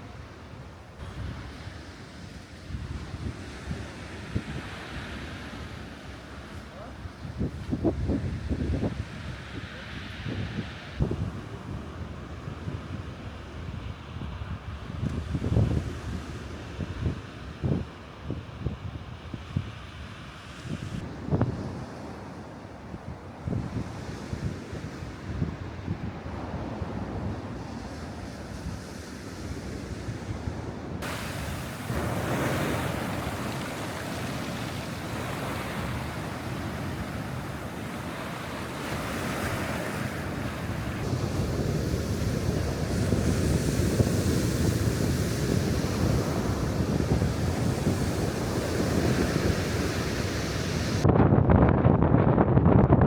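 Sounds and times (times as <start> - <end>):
surf washing onto shore: 0.0 - 13.1, 20.1 - 51.0
wind rumbling on microphone: 0.0 - 53.0.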